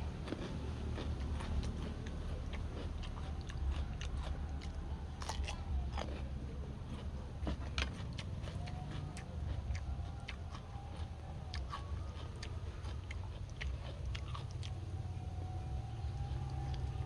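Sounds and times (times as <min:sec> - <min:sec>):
person chewing and biting food: 0:00.0 - 0:14.9.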